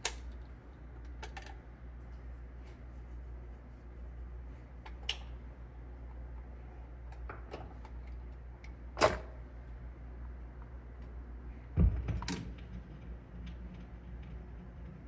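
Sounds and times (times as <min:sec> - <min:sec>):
amplifier electrical hum: 0:00.0 - 0:15.0.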